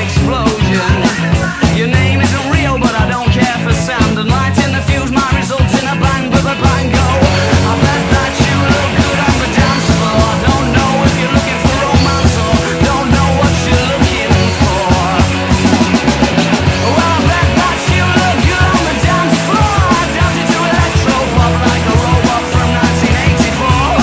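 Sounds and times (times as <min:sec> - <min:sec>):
loud rock music with singing: 0:00.0 - 0:24.0.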